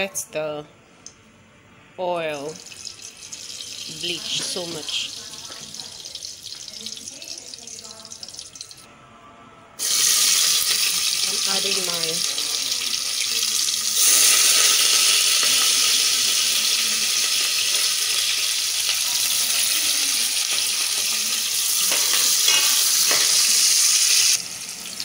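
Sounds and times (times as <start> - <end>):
onions sizzling in oil: 2.4 - 8.8, 9.8 - 25.0.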